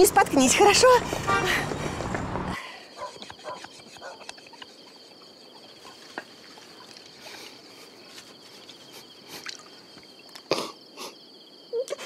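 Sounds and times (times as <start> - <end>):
insects chirring: 1.8 - 12.0.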